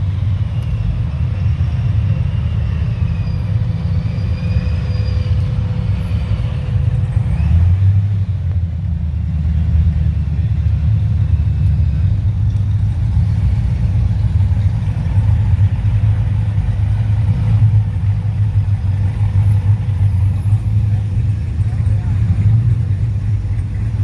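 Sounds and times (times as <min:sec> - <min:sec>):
car engine exhaust rumble: 0:00.0 - 0:24.0.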